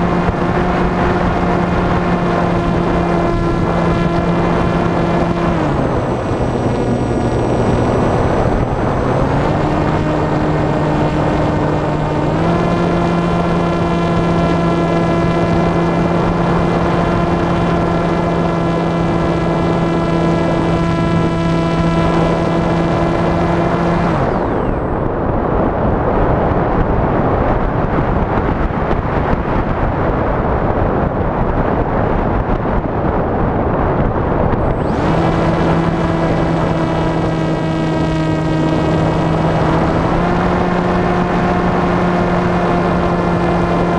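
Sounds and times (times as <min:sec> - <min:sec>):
model aircraft motor and propeller: 0:00.0 - 0:29.4, 0:32.4 - 0:43.9.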